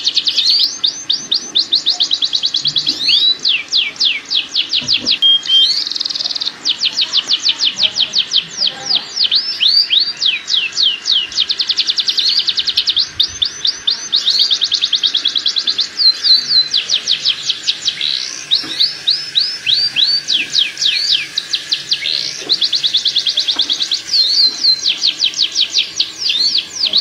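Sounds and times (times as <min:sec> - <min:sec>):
canary singing trills: 0:00.0 - 0:27.0.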